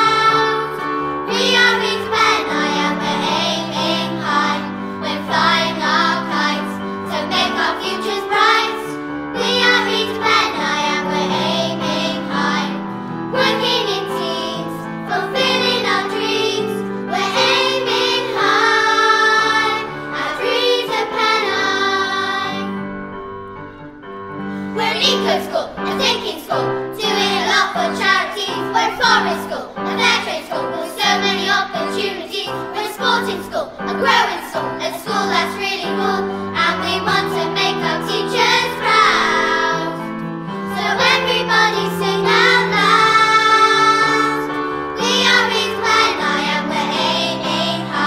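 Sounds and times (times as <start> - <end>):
children singing: 0.0 - 22.8, 24.8 - 48.0
instrumental backing music: 0.0 - 48.0.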